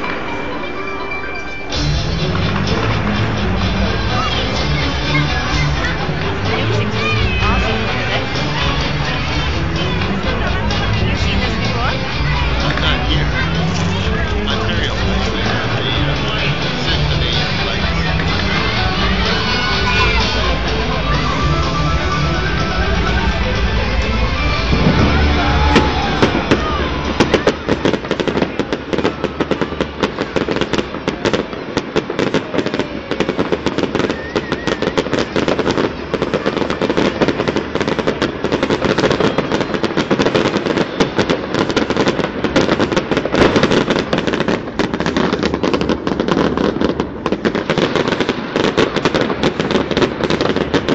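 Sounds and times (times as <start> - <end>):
fireworks crackling: 0.0 - 50.9.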